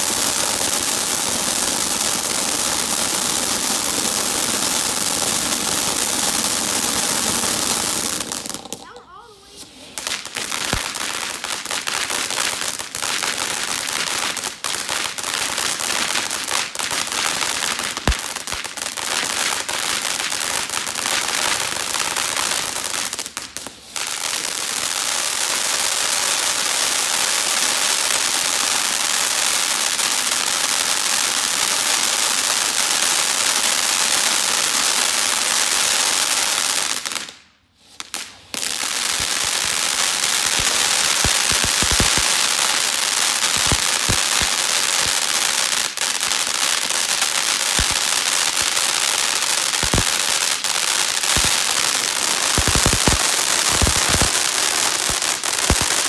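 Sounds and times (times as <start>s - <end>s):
firework fountain hissing and crackling: 0.0s - 56.0s.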